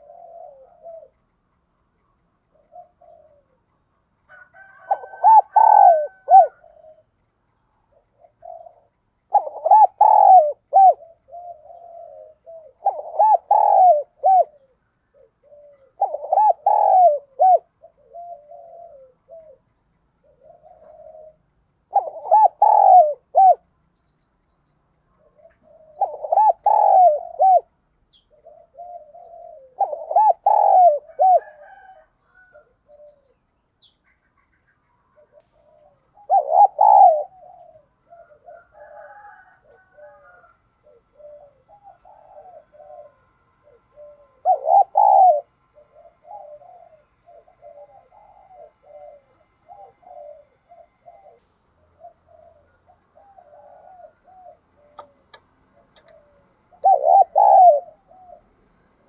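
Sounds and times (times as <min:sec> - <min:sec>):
dove cooing: 0:00.0 - 0:01.5, 0:02.4 - 0:23.7, 0:25.1 - 0:59.0.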